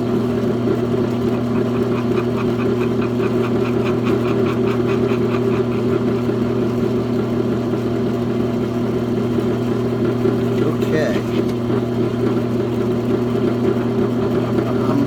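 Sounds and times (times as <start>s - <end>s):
machine tool motor humming: 0.0s - 15.0s.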